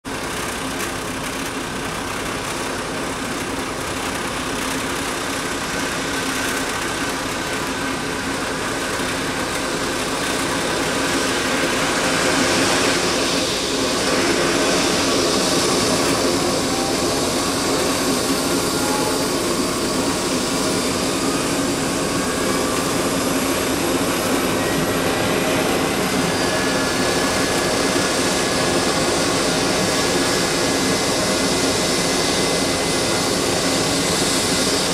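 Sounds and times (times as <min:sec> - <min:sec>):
helicopter turbine engines starting: 0:00.1 - 0:34.9.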